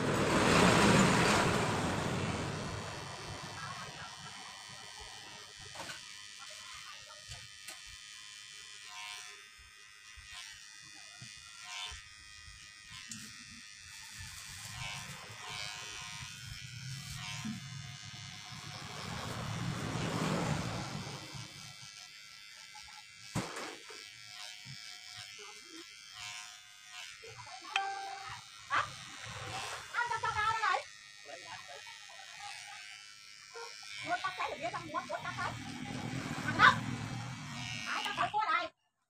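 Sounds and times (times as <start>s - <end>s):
electric hair clipper buzzing: 0.1s - 38.7s.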